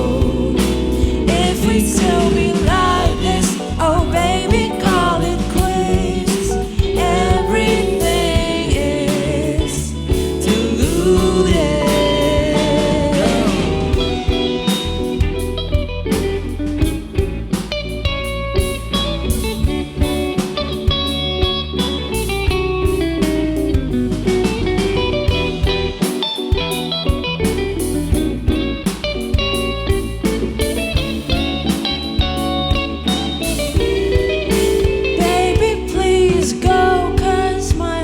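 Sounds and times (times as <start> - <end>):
bass: 0.0 - 38.0
drums: 0.0 - 38.0
electric guitar lead: 0.0 - 38.0.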